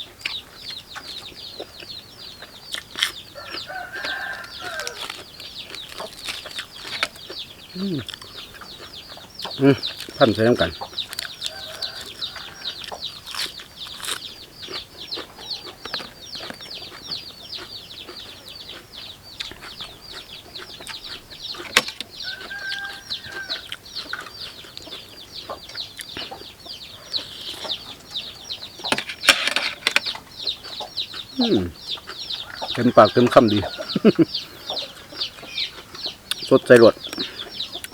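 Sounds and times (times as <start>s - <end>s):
chicks peeping: 0.0s - 37.9s.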